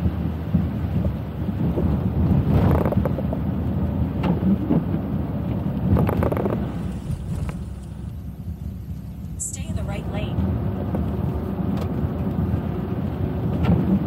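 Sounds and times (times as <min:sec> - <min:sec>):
tyre noise on wet road: 0:00.0 - 0:09.4, 0:10.4 - 0:14.0.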